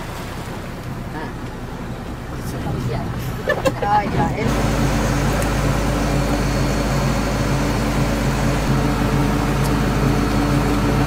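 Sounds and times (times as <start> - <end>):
boat engine droning: 0.0 - 11.0
wind and water hiss: 0.0 - 11.0.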